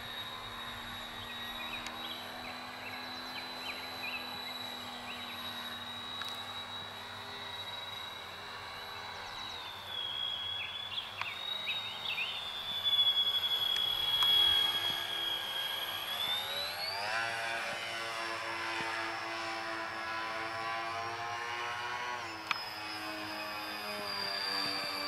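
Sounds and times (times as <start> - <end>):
electric model aircraft motors whining: 0.0 - 25.0.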